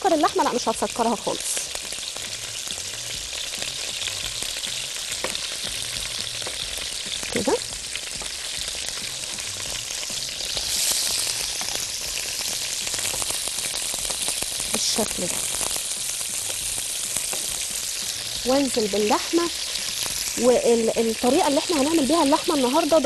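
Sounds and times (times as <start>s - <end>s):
beef sizzling in oil: 0.0s - 23.0s.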